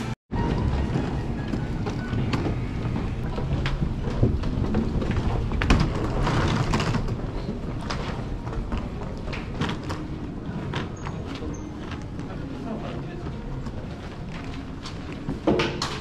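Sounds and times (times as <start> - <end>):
footsteps: 0.0 - 16.0
rolling suitcase wheels: 0.3 - 16.0.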